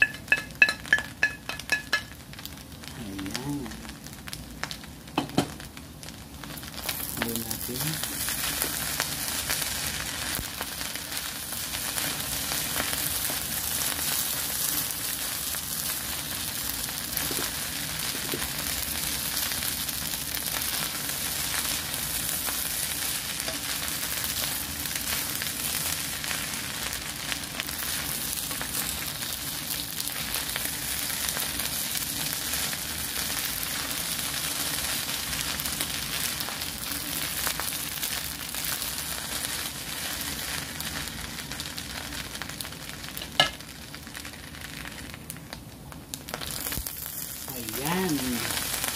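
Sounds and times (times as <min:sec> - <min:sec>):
rice sizzling in a pan: 0:00.0 - 0:48.9.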